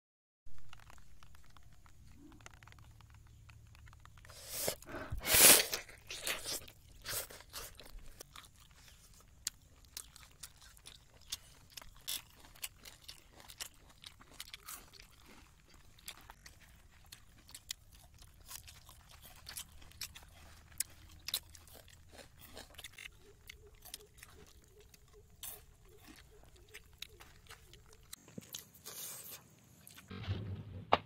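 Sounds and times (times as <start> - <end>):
person chewing crunchy food: 0.6 - 30.1.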